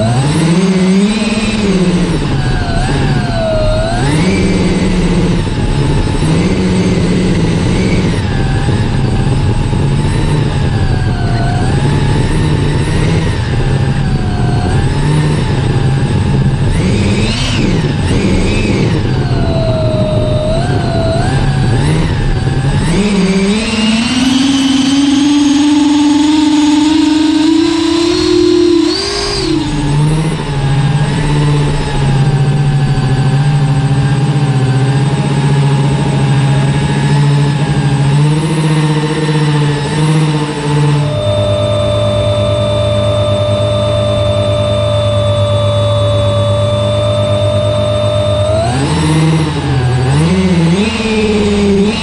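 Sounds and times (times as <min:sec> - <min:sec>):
model jet turbine whine: 0:00.0 - 0:52.0.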